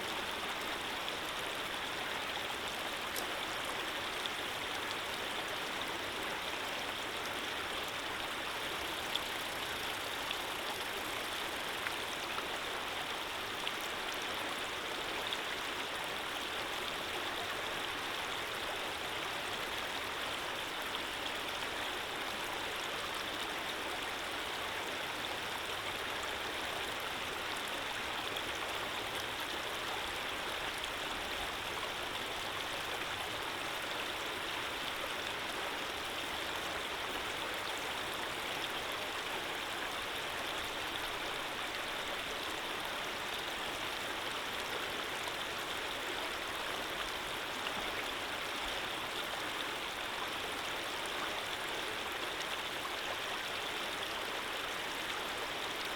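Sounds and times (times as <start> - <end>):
water flowing steadily: 0.0 - 55.9.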